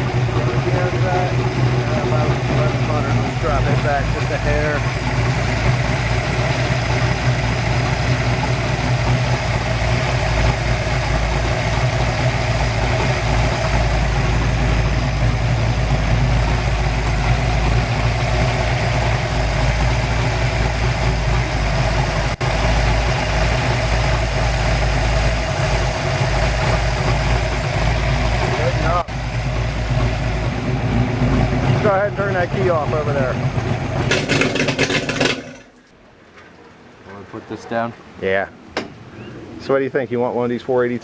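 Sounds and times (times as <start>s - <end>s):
boat engine idling: 0.0s - 39.3s.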